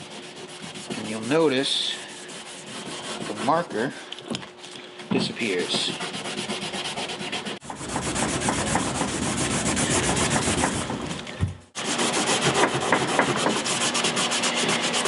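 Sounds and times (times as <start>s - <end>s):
wet sandpaper scratchy rasp: 0.0s - 4.0s, 5.4s - 10.9s, 11.8s - 15.0s.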